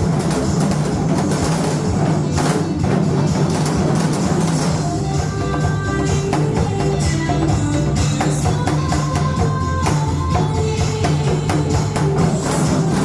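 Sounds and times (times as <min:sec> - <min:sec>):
song playing: 0:00.0 - 0:13.0.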